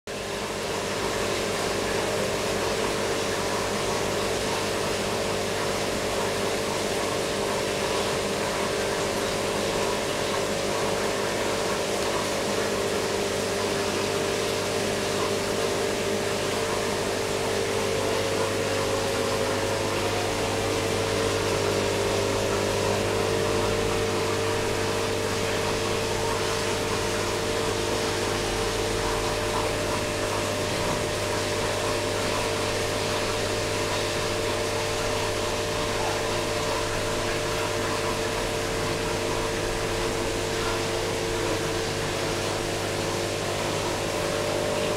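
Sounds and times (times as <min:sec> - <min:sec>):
aquarium pump hum: 0:00.1 - 0:44.9.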